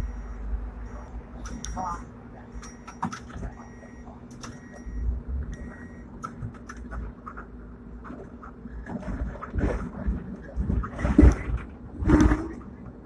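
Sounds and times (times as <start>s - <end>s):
tram rumble and hum: 0.0s - 13.0s.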